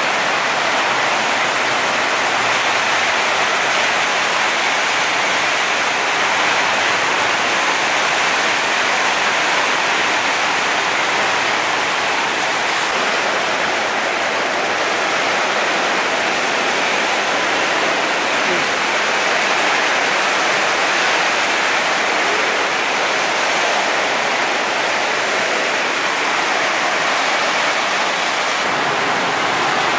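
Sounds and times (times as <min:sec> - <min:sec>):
heavy rain hissing: 0:00.0 - 0:29.9.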